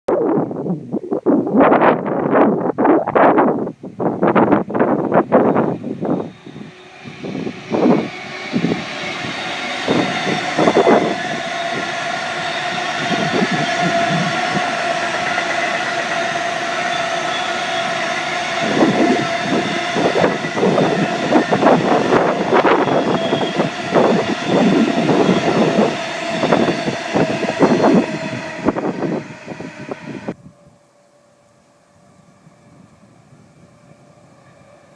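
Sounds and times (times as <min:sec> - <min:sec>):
freight train passing: 0:01.5 - 0:34.9
steady high tone: 0:04.6 - 0:34.9.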